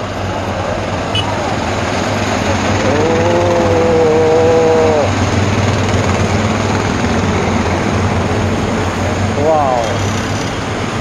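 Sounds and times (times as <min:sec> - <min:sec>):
engine whine: 0:00.0 - 0:11.0
road noise: 0:00.0 - 0:11.0
vehicles driving past: 0:00.0 - 0:11.0.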